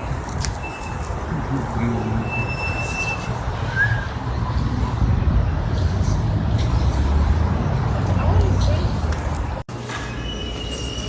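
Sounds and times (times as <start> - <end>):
low rumble of city vehicles: 0.0 - 11.0.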